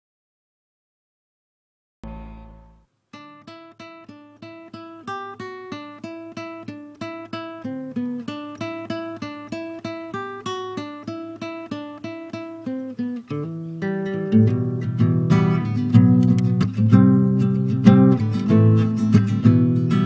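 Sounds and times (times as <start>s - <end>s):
fingerpicked acoustic guitar: 2.0s - 20.0s.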